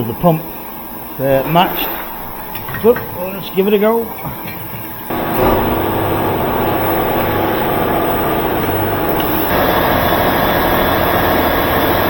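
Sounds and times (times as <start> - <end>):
centrifugal pump running: 1.5 - 12.0.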